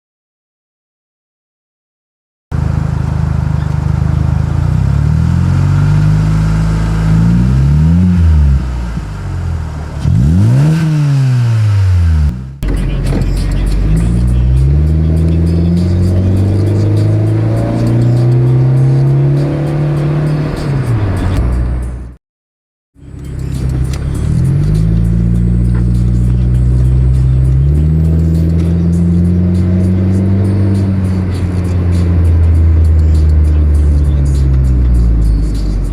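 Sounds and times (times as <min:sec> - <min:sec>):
car engine running and revving: 0:02.5 - 0:22.2, 0:23.0 - 0:35.9.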